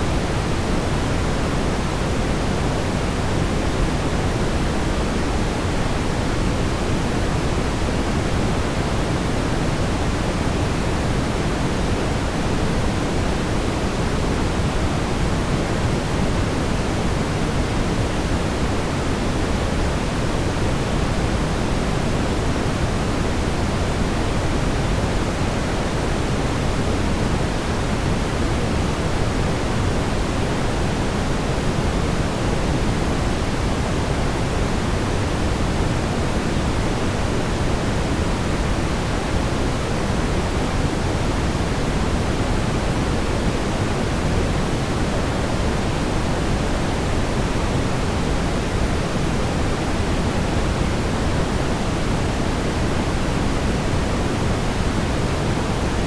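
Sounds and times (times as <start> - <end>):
brown noise rumbling hiss: 0.0 - 56.0.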